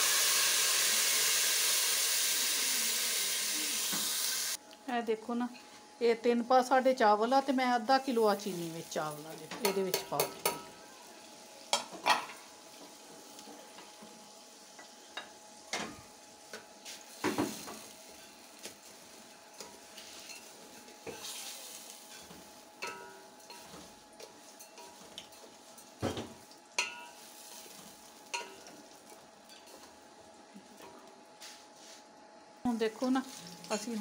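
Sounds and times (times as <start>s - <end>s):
faint sizzle: 0.0s - 34.0s.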